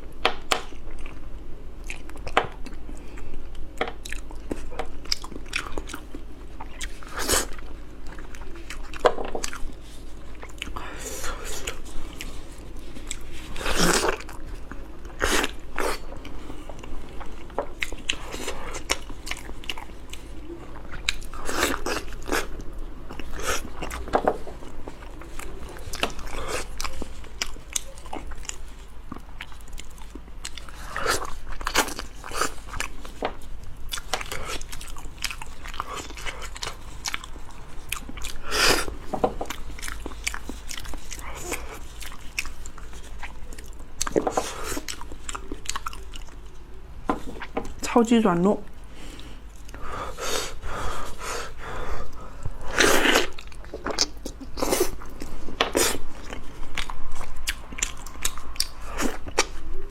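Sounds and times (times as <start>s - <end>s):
person biting and chewing: 4.0s - 46.6s, 52.0s - 59.6s.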